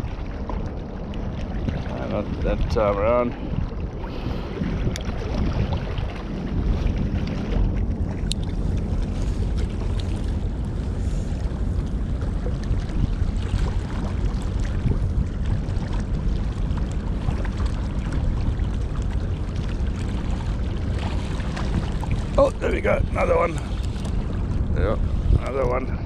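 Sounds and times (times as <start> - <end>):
choppy water against rocks: 0.0 - 26.0
wind on microphone: 0.0 - 26.0.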